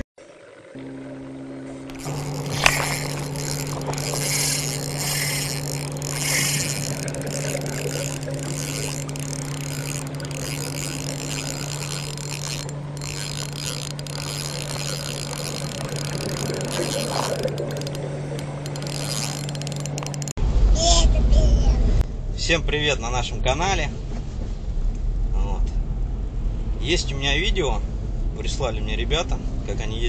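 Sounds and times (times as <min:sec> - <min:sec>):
low two-tone hum: 0:00.0 - 0:30.0.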